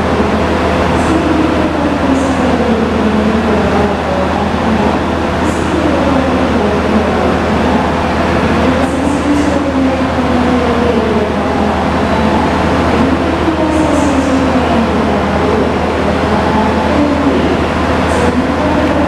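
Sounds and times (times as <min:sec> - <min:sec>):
train coaches rumbling: 0:00.0 - 0:19.0.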